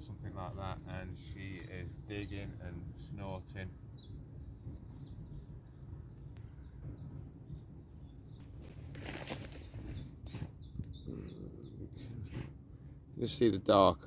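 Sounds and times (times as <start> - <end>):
low background rumble: 0.0 - 14.0
songbird singing: 0.0 - 14.0.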